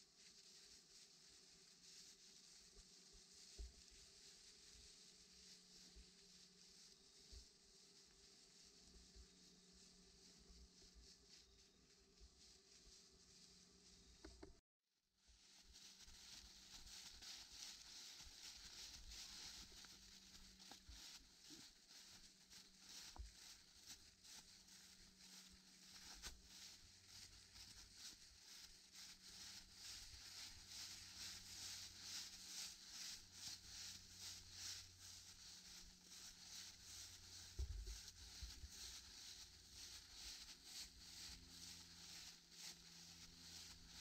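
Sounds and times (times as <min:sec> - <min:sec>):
footsteps through dry leaves: 0:00.0 - 0:14.2, 0:15.3 - 0:44.0.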